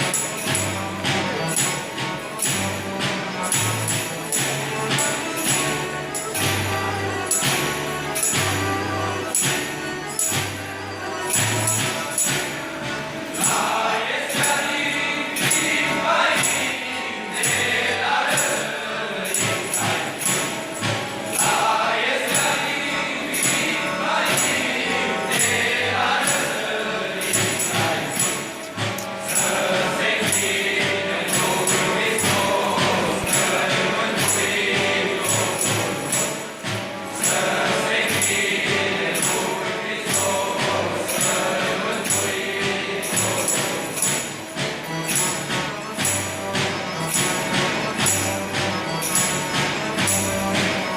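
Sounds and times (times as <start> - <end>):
group of people singing carols: 0.0 - 50.9
jingle bells shaken: 0.0 - 50.9.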